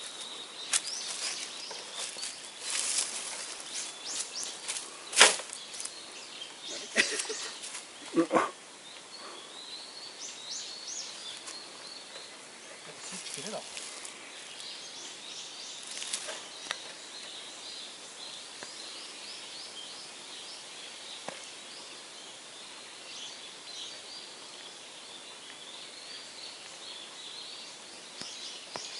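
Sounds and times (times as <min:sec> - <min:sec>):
birds chirping: 0:00.0 - 0:28.9
steady outdoor hiss: 0:00.0 - 0:28.9.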